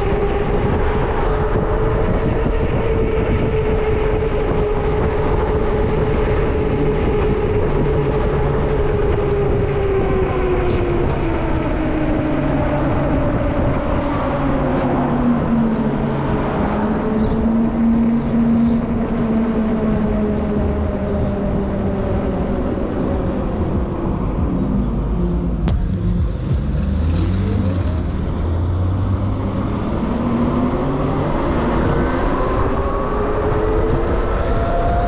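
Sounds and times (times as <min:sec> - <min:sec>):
rolling and wind noise: 0:00.0 - 0:35.0.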